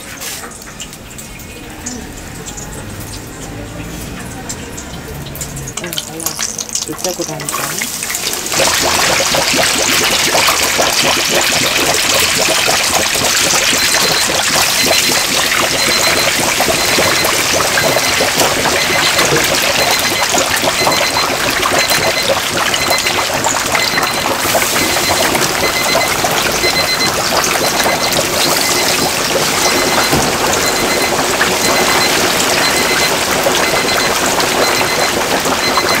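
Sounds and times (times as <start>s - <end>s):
chicken deep-frying in hot oil: 0.0s - 36.0s.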